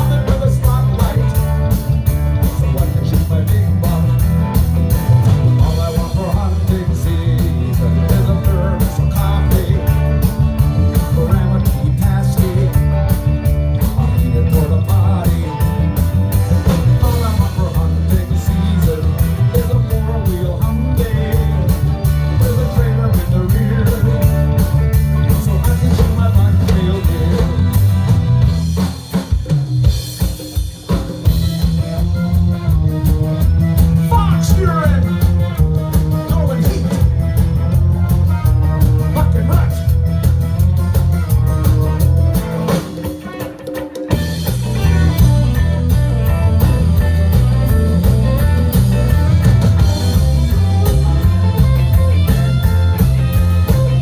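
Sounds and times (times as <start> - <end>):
drum rimshots: 0.0 - 54.0
reggae band playing live: 0.0 - 54.0.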